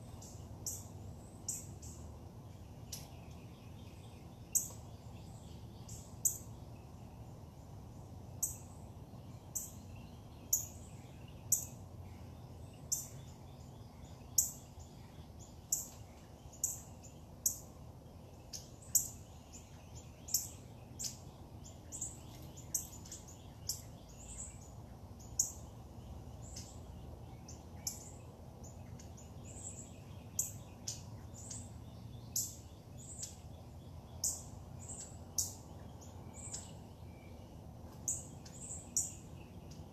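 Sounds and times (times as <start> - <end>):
bird chirping: 0.0 - 39.9
low background hum: 0.0 - 39.9.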